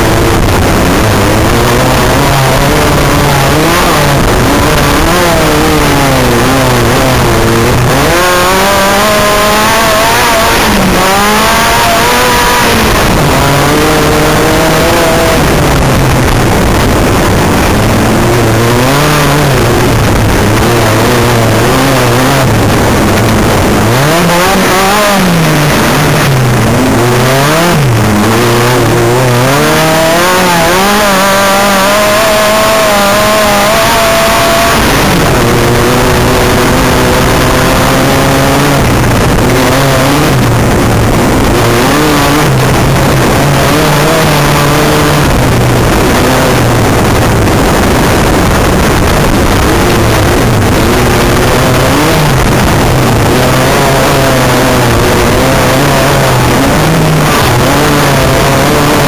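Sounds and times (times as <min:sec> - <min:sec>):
heavy rush of noise: 0:00.0 - 0:59.0
race buggy engine revving: 0:00.0 - 0:59.0.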